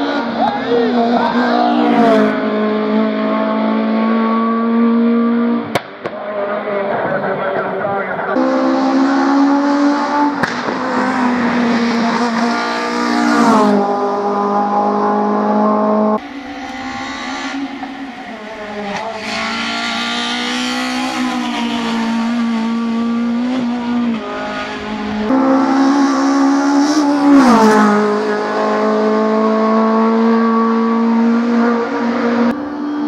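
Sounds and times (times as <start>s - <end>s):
car engine revving hard: 0.0s - 33.0s.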